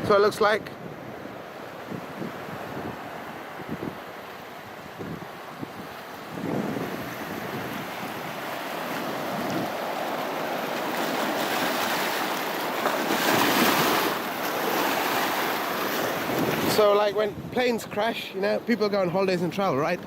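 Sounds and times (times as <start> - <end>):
ocean surf washing in: 0.0 - 20.0.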